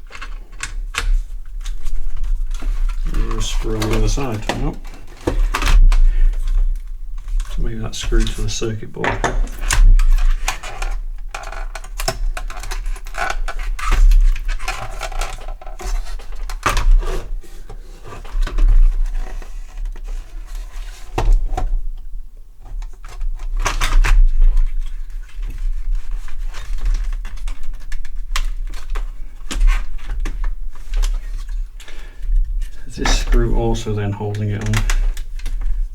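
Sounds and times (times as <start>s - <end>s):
plastic and metal parts clicking: 0.0s - 17.1s, 22.8s - 35.7s.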